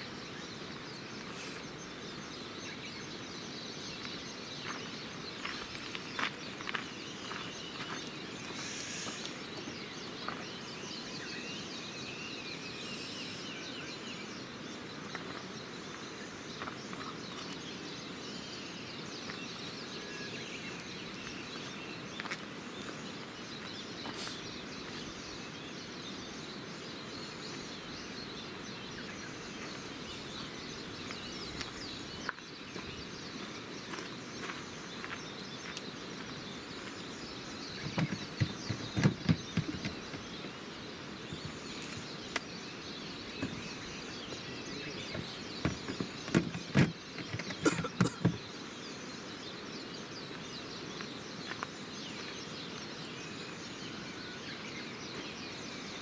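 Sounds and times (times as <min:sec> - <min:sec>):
bird chirps: 0:00.0 - 0:56.0
outdoor background hiss: 0:00.0 - 0:56.0.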